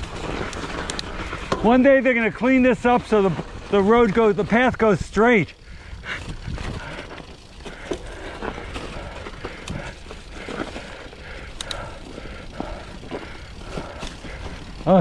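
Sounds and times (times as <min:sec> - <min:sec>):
bike clicks and rattles: 0:00.0 - 0:15.0
low rumble of tyres on trail: 0:00.0 - 0:15.0.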